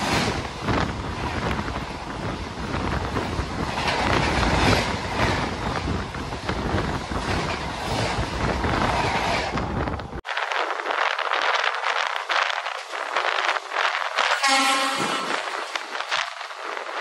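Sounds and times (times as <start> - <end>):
passing train rushing: 0.0 - 17.0
wind hiss: 0.0 - 17.0.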